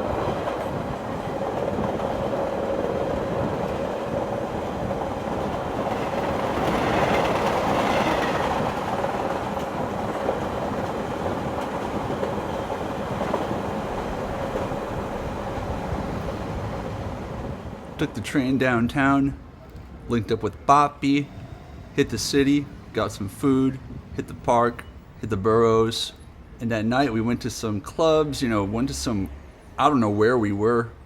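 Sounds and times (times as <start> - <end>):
train rumbling along rails: 0.0 - 29.8.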